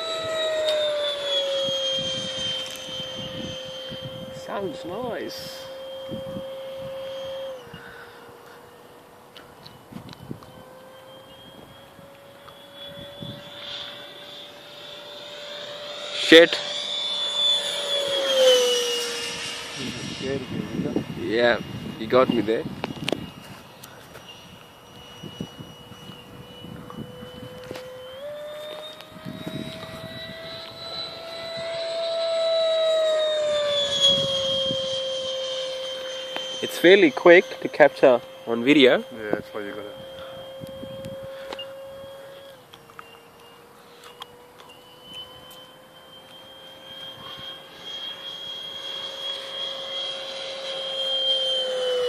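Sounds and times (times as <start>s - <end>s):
model jet fan whine: 0.0s - 52.0s.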